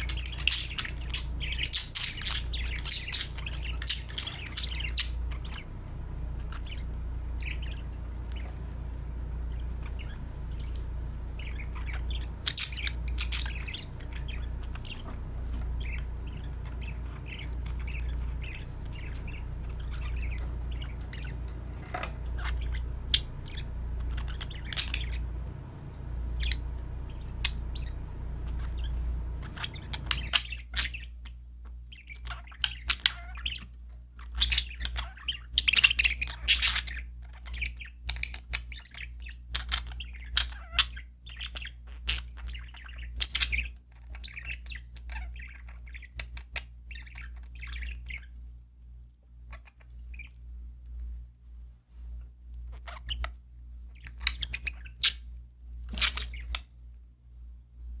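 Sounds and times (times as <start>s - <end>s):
budgerigars chirping and squawking: 0.0s - 48.6s, 49.4s - 50.5s, 52.6s - 56.7s
steady low hum: 0.0s - 58.0s.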